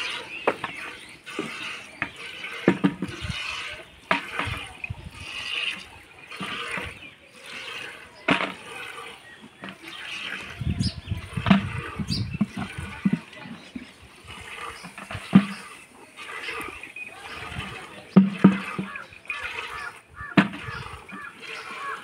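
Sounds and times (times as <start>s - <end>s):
milk squirting into a pail: 0.0s - 22.0s.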